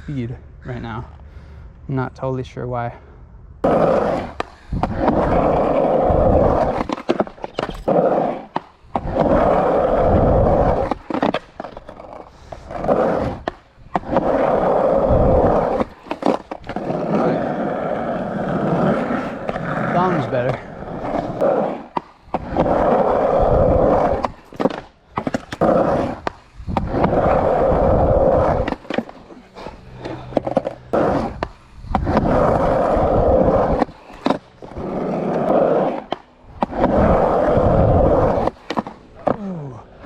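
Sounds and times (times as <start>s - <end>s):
skateboard wheels rolling: 3.6s - 40.0s.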